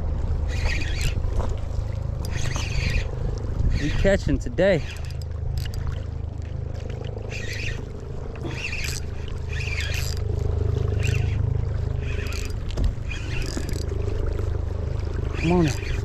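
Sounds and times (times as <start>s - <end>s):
steady low rumble: 0.0s - 16.0s
fishing reel whirring: 0.3s - 16.0s.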